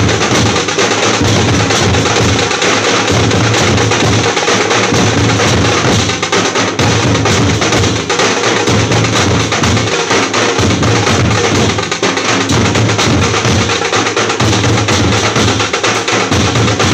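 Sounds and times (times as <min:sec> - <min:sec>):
rapid drumming: 0:00.0 - 0:16.9.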